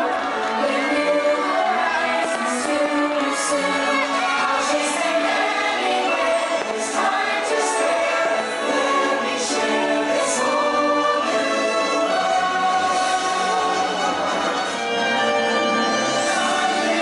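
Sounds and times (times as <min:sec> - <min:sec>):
choir singing sustained notes: 0:00.0 - 0:17.0.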